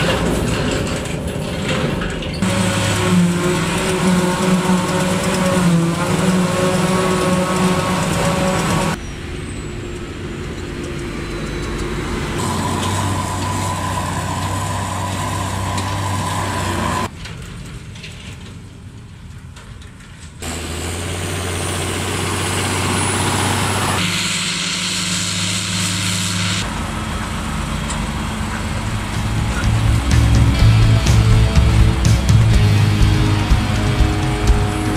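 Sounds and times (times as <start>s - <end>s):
diesel farm machinery running: 0.0s - 34.9s.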